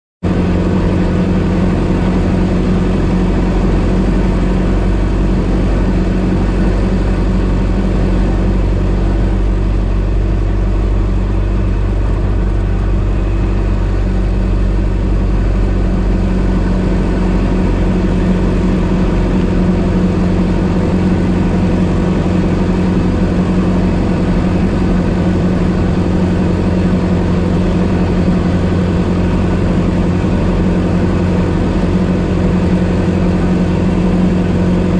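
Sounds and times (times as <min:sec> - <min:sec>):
car engine running: 0:00.2 - 0:34.9.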